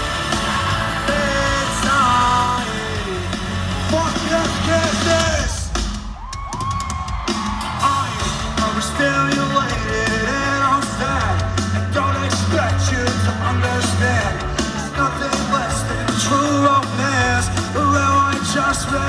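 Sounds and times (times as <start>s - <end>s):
electric guitars: 0.0s - 5.6s, 7.4s - 19.0s
drums: 0.0s - 19.0s
lead singer singing: 0.2s - 5.7s, 7.6s - 19.0s.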